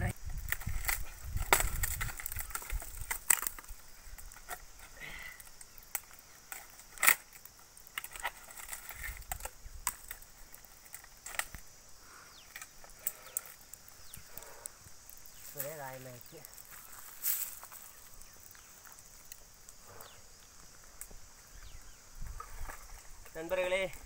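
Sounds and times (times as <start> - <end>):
sharp clicks and crackles: 0.0 - 24.0.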